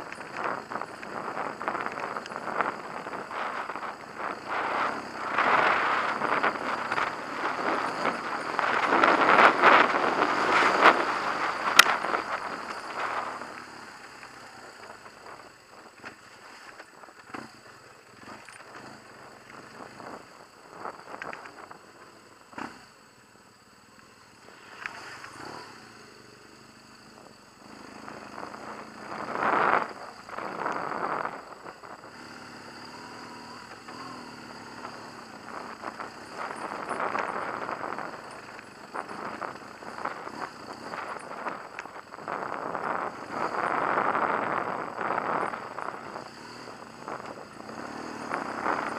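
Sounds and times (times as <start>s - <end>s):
tyre and wind noise: 0.0s - 23.3s, 24.4s - 48.9s
motorcycle engine at low revs: 0.0s - 48.9s.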